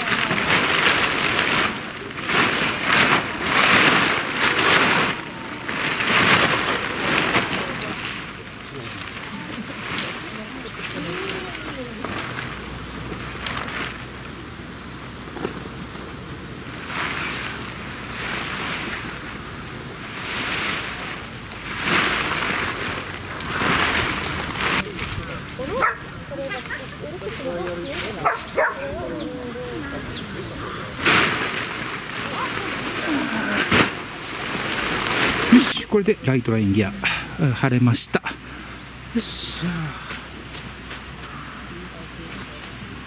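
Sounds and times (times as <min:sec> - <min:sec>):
tent fabric rustling and crinkling: 0:00.0 - 0:37.4.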